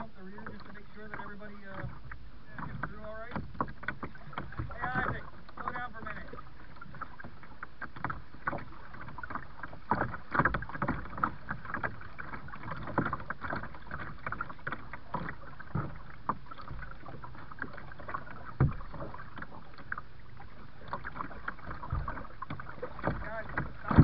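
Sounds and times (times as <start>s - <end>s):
kayak paddle splashing: 0.0s - 24.0s
rushing water: 0.0s - 24.0s.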